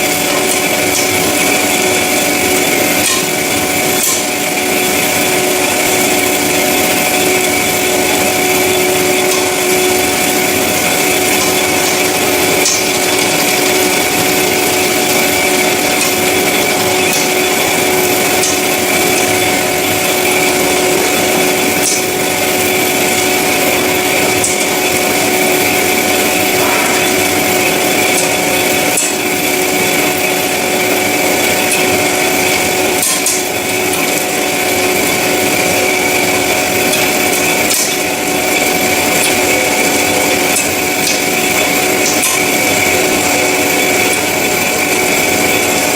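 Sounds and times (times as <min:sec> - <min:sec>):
band saw cutting metal: 0:00.0 - 0:45.9.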